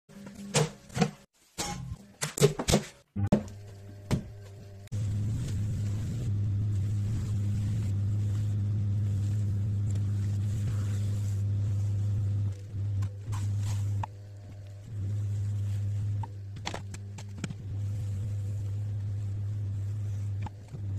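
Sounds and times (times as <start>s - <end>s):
potter's wheel motor humming: 3.3s - 20.9s.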